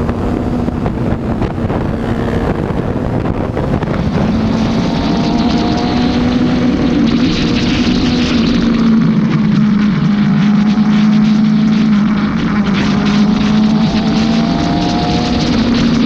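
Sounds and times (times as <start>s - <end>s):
motorcycle engine running: 0.0s - 16.0s
wind noise on microphone: 0.0s - 16.0s.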